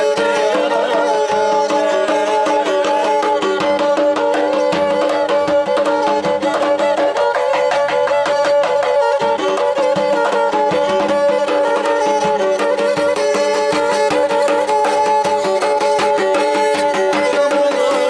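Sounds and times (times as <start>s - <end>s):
bowed fiddle melody: 0.0s - 18.0s.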